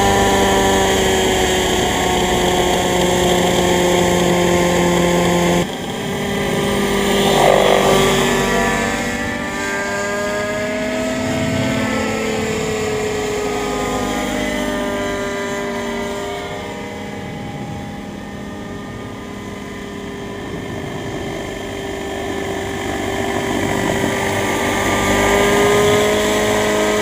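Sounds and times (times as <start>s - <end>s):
model engine running: 0.0s - 27.0s.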